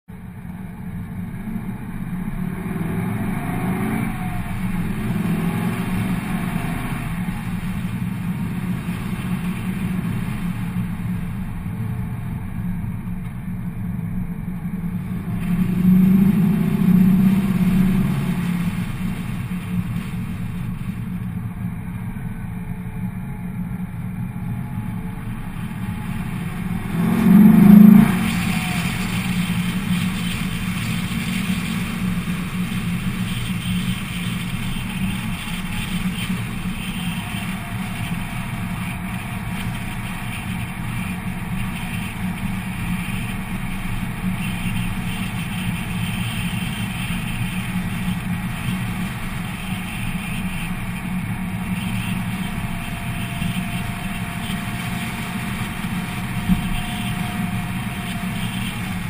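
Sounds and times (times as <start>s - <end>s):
car engine and exhaust: 0.0s - 59.0s.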